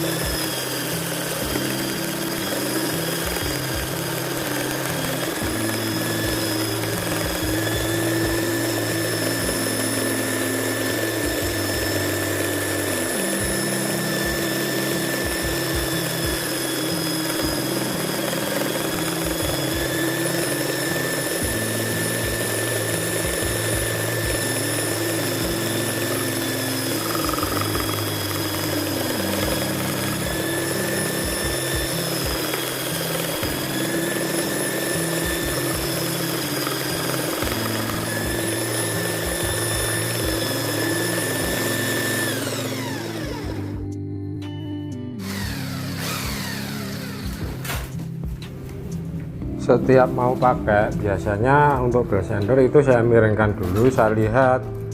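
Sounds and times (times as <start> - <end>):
electric belt sander running: 0.0 - 53.0.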